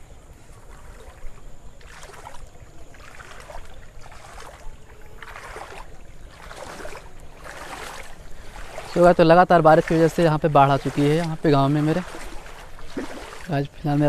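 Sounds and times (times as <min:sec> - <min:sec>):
floodwater splashing and sloshing: 0:00.0 - 0:14.0.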